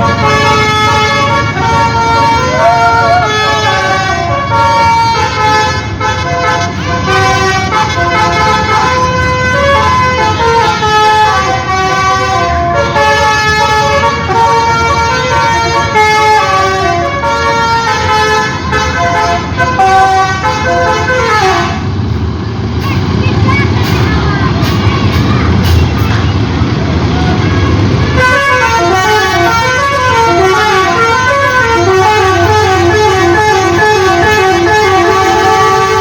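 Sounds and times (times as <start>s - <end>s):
multi-tone bus horn melody: 0.0s - 24.0s, 27.3s - 36.0s
bus engine rumble: 0.0s - 36.0s.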